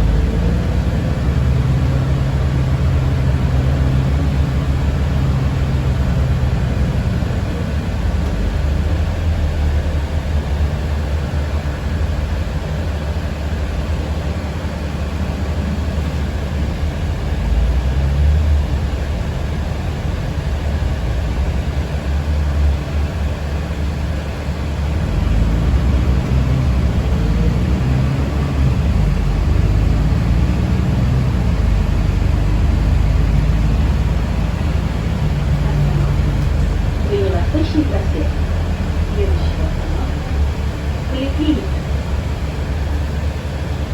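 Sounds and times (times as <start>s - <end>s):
bus rumble and road noise: 0.0s - 43.9s.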